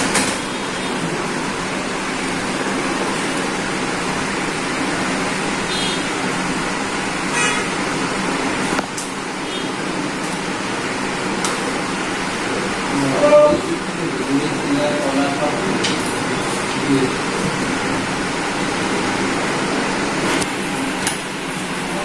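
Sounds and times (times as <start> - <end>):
rushing background noise: 0.0 - 22.0.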